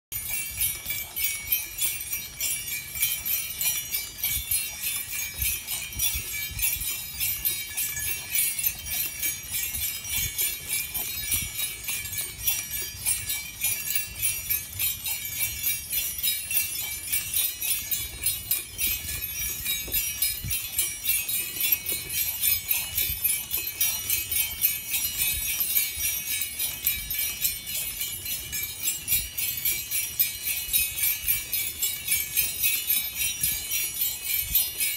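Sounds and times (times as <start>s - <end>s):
harness bells jingling: 0.1s - 34.9s.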